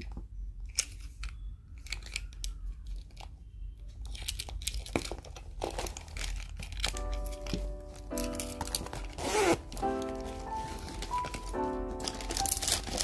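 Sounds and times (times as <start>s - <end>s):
plastic pouch crinkling: 1.8s - 13.0s.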